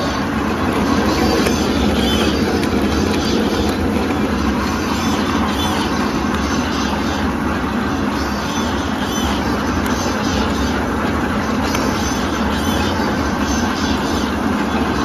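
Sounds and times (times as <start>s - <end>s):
straw bending machine running: 0.0s - 15.0s.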